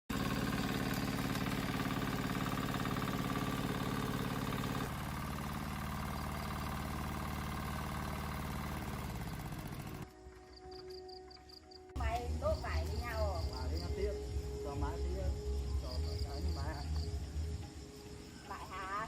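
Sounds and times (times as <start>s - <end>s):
small tractor engine running: 0.1s - 11.1s, 12.0s - 18.8s.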